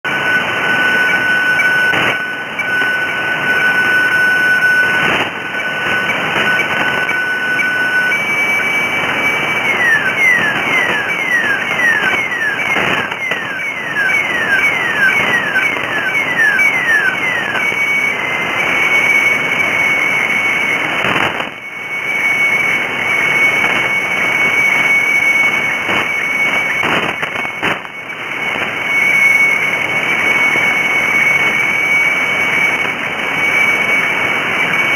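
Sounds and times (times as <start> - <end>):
fax tone: 0.1 - 34.9
radio band hiss: 0.1 - 34.9
static crackles: 0.1 - 34.9.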